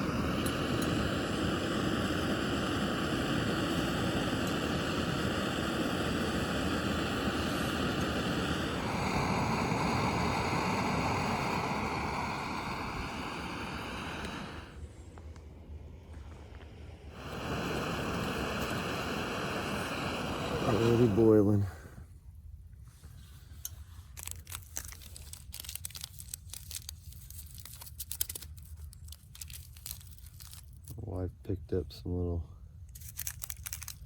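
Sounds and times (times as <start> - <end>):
canister stove burning: 0.0 - 22.2, 23.0 - 32.0.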